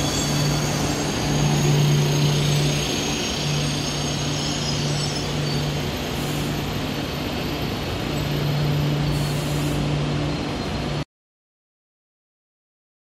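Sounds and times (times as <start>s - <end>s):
train rolling with low hum: 0.0s - 11.0s.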